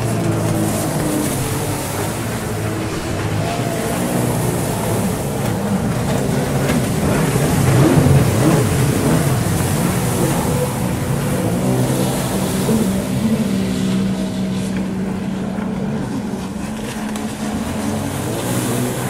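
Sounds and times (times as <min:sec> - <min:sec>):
jet ski engines revving: 0:00.0 - 0:19.0.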